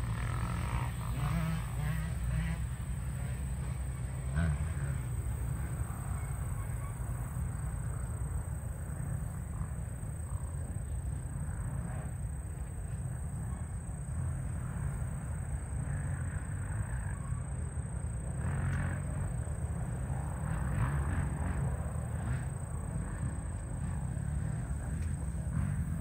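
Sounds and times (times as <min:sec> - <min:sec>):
distant dirt bike engines revving: 0:00.0 - 0:26.0.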